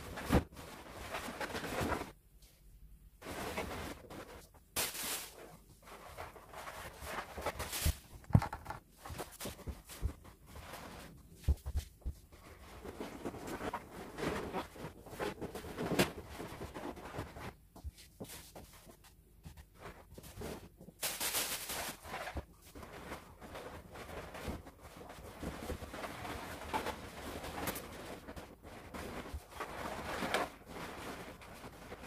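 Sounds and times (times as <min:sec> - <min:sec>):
balloons rubbing and knocking: 0:03.2 - 0:32.0.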